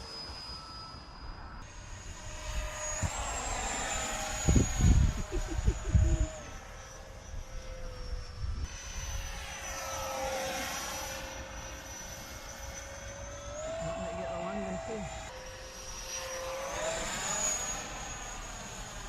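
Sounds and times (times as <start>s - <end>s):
electric ducted fan whining: 0.0s - 19.0s.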